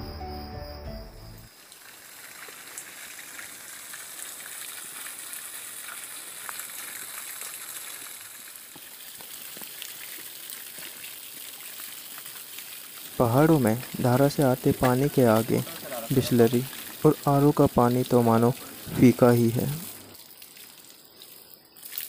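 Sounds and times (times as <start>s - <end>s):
water gushing onto rocks: 1.5s - 22.0s.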